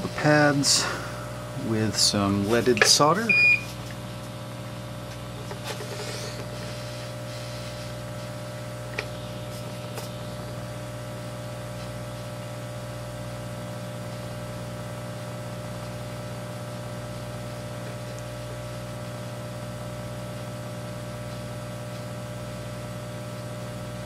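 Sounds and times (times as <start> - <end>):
electrical hum with fan hiss: 0.0 - 24.0.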